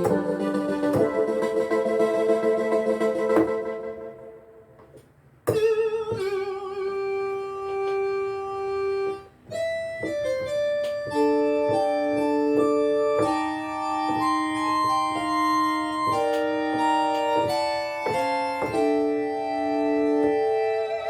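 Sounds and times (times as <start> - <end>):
vintage keyboard synth notes: 0.0 - 21.0.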